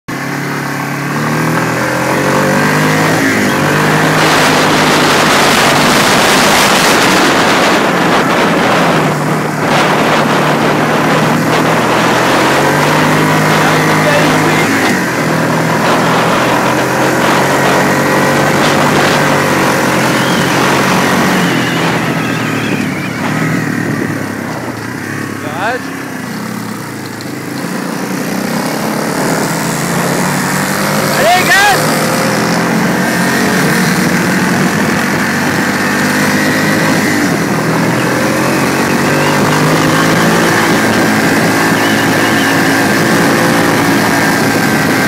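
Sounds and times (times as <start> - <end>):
dirt bike engine revving: 0.1 - 45.0
wind rush on microphone: 0.2 - 45.0.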